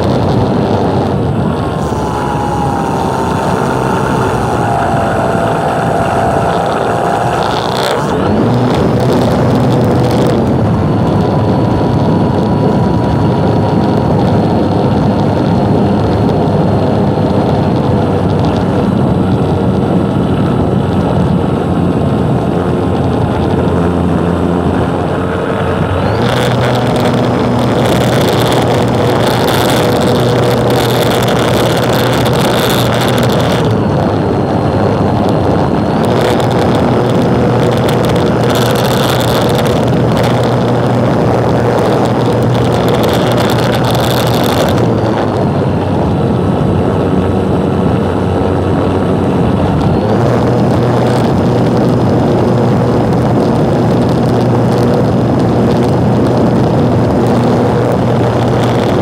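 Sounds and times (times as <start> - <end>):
wind buffeting microphone: 0.0 - 59.0
aircraft engine and propeller: 7.4 - 59.0.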